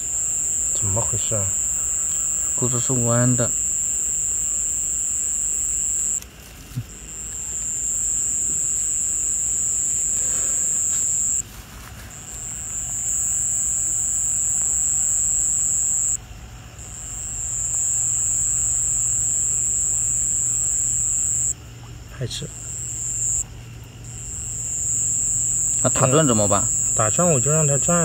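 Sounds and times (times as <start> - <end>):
insect trilling: 0.0 - 28.0.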